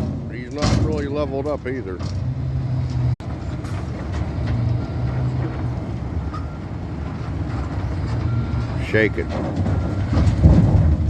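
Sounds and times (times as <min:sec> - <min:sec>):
diesel truck engine drone: 0:00.0 - 0:11.0.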